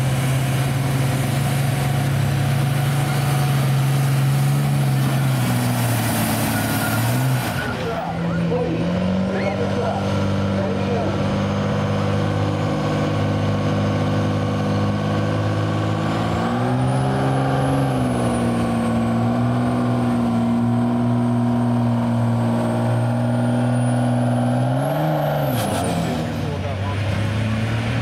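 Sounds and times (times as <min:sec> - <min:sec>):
diesel engine under heavy load: 0:00.0 - 0:28.0.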